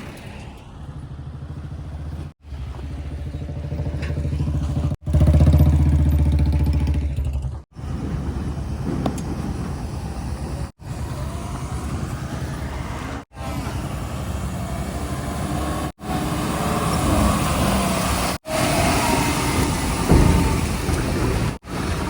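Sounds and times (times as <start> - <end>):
heavy diesel engines running: 0.0 - 22.0.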